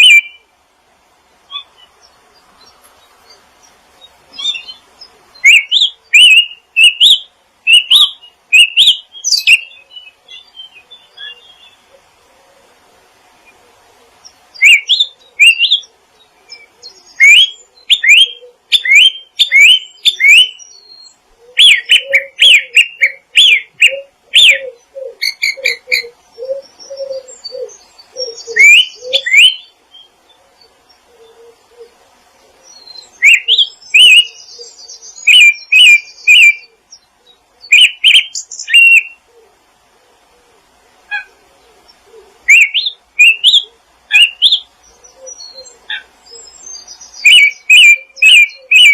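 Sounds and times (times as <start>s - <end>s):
songbirds whistling: 0.0s - 0.5s, 1.5s - 12.0s, 14.2s - 32.0s, 32.6s - 39.4s, 41.1s - 48.9s.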